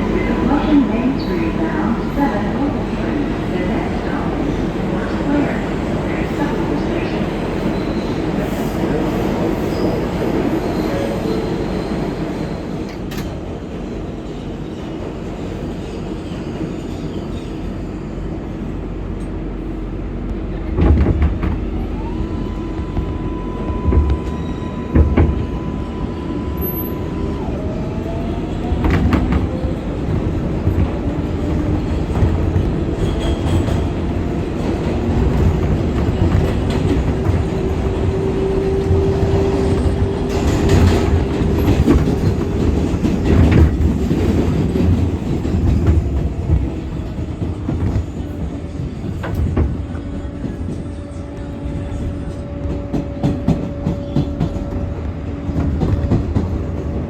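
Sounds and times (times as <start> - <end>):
subway train wheels rumbling on rail: 0.0 - 57.0.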